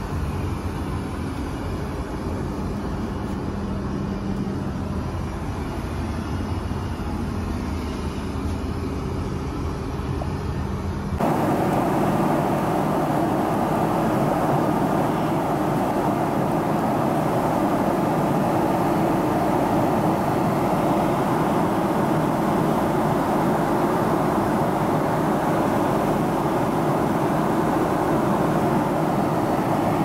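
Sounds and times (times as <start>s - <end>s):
aircraft cabin drone: 0.0s - 30.0s.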